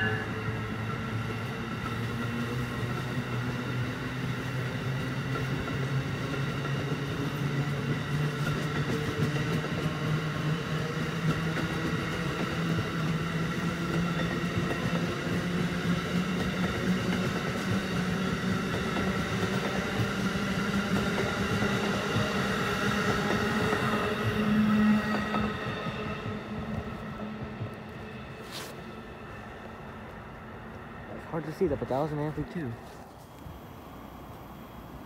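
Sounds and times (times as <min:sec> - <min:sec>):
train hum rising in pitch: 0:00.0 - 0:35.0
train rumble: 0:00.0 - 0:35.0.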